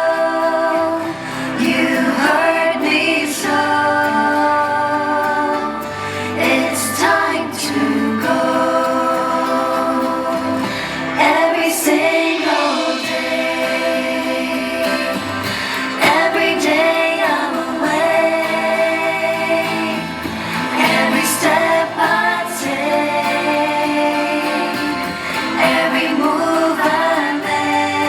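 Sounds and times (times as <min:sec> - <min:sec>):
women singing together: 0:00.0 - 0:28.0
instrumental accompaniment: 0:01.0 - 0:28.0.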